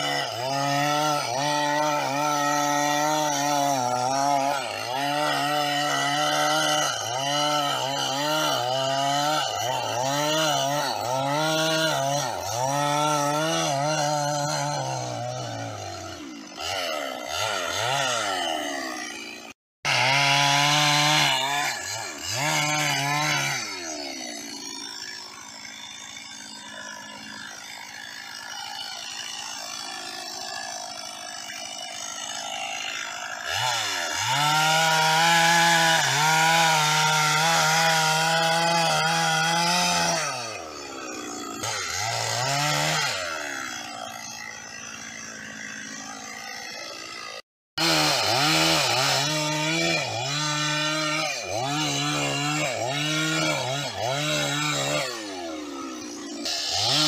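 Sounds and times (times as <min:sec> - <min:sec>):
chainsaw sawing through log: 0:00.0 - 0:57.0.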